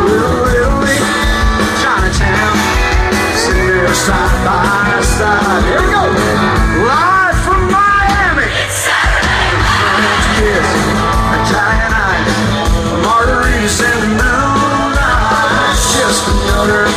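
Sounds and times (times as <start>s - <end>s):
electric guitar lead: 0.0s - 7.9s, 9.6s - 16.9s
bass: 0.0s - 16.9s
drums: 0.0s - 16.9s.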